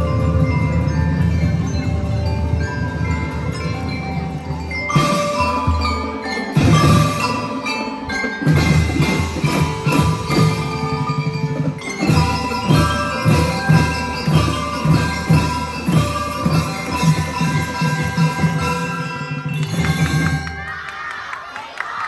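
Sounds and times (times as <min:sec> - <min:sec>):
xylophones playing fast melody: 0:00.0 - 0:21.1.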